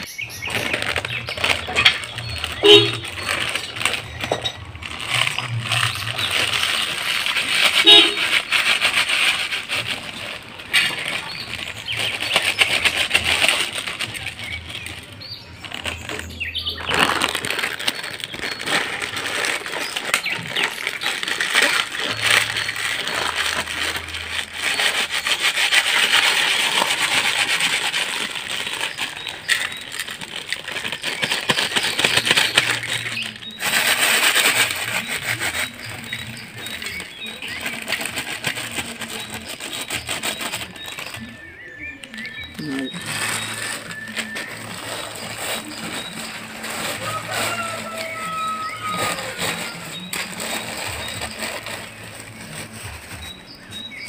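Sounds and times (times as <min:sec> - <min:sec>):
plastic snack packet crinkling: 0:00.0 - 0:54.0
potato chips crunching: 0:00.0 - 0:54.0.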